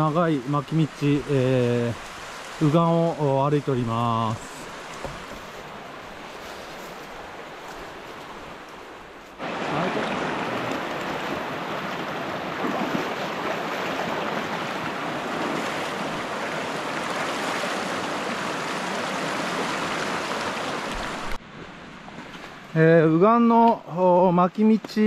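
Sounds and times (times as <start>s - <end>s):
river rushing: 0.0s - 22.8s.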